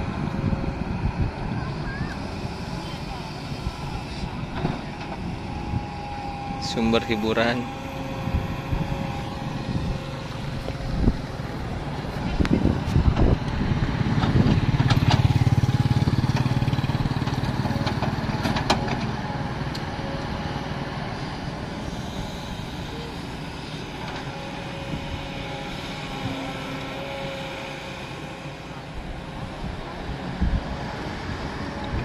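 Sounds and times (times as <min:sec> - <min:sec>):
excavator diesel engine: 0:00.0 - 0:32.0.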